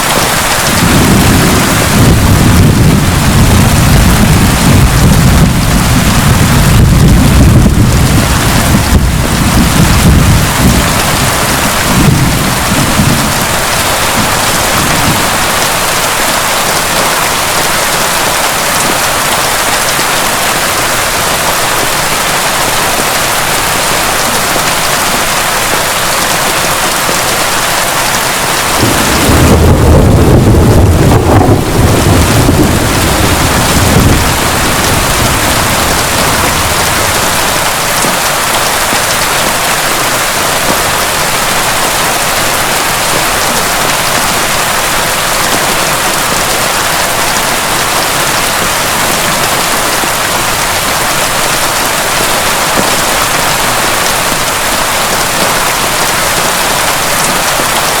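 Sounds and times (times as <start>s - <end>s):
thunder rumbling: 0.0s - 21.2s, 26.7s - 56.1s
heavy rain falling: 0.0s - 58.0s.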